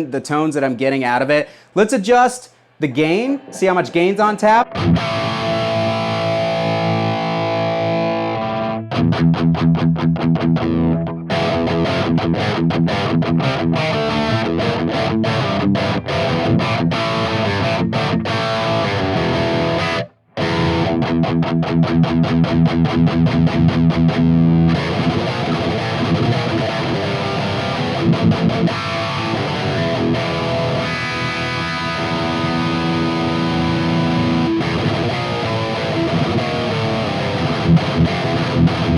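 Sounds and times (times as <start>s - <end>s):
distorted electric guitar riffs: 2.5s - 38.9s.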